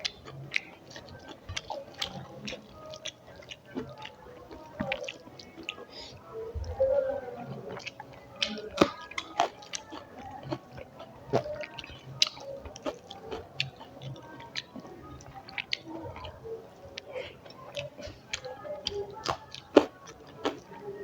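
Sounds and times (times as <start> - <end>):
chewing food: 0.0 - 21.0.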